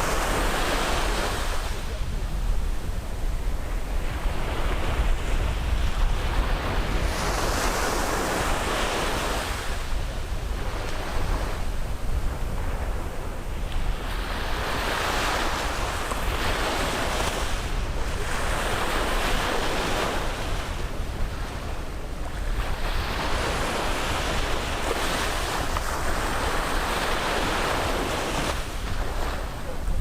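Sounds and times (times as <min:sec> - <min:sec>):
surf breaking on beach: 0:00.0 - 0:30.0.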